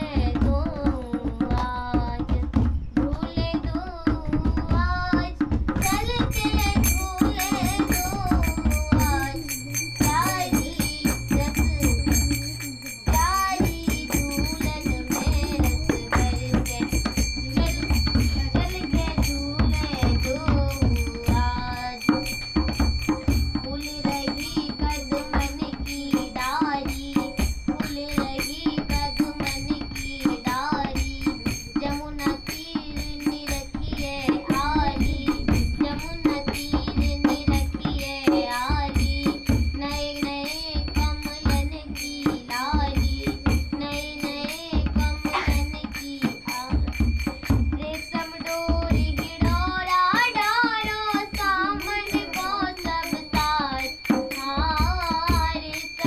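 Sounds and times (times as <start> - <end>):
girl singing: 0.0 - 56.0
hand drum strokes: 0.0 - 56.0.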